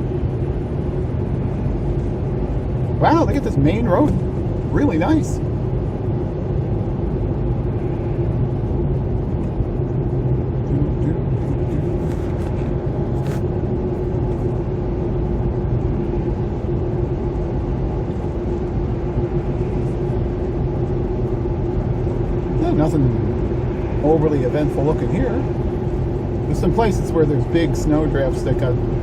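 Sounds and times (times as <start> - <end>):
car interior road and engine noise: 0.0 - 29.0.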